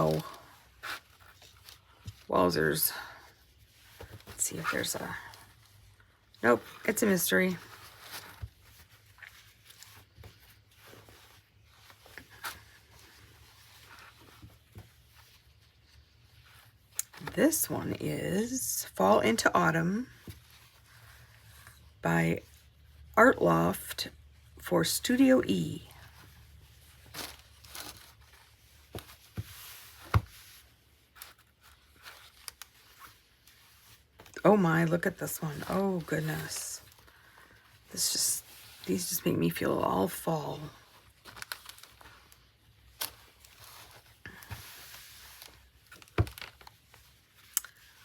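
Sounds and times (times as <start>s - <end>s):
fabric and paper rustling: 0.0s - 48.0s.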